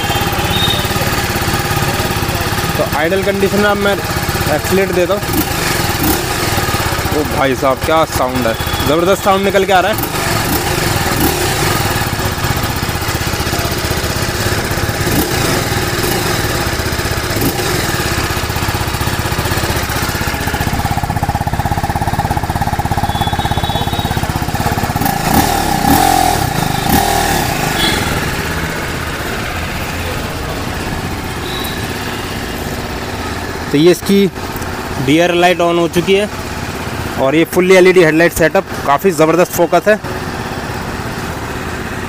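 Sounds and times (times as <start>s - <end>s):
motorcycle engine idling: 0.0s - 42.0s.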